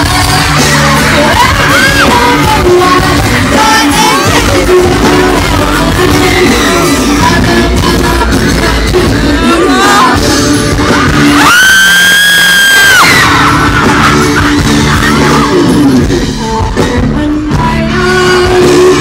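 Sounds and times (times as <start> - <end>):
woman singing: 0.0 - 11.8, 14.4 - 19.0
live band playing: 0.0 - 19.0.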